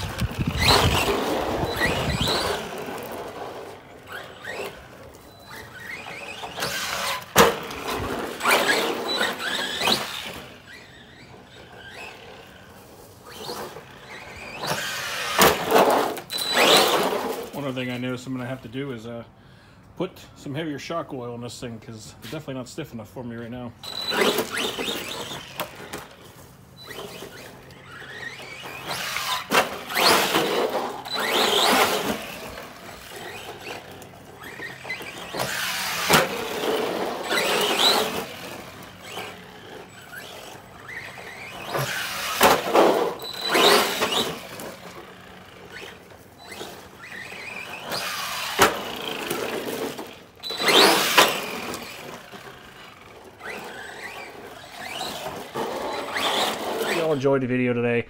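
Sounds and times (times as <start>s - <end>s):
electric motor whining: 0.0s - 17.6s, 23.8s - 57.2s
tyres scrubbing over asphalt: 0.0s - 18.6s, 22.3s - 57.4s.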